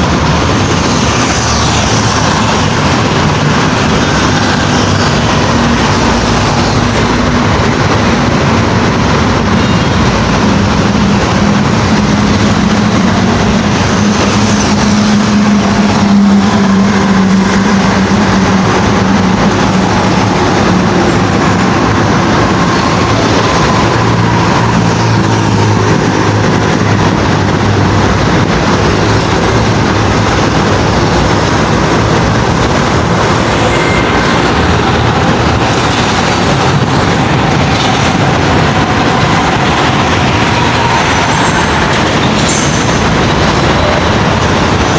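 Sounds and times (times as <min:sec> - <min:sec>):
heavy trucks driving past: 0:00.0 - 0:44.9.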